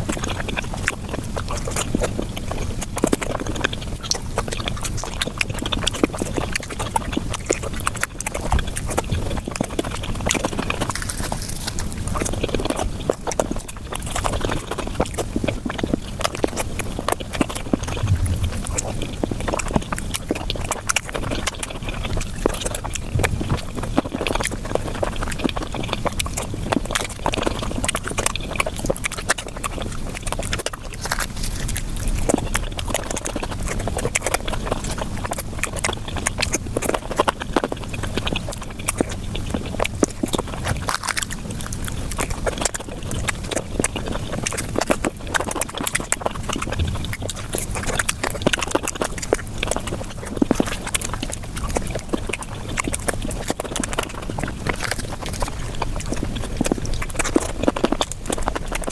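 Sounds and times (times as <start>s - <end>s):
fast chewing and mouth smacks: 0.0s - 58.9s.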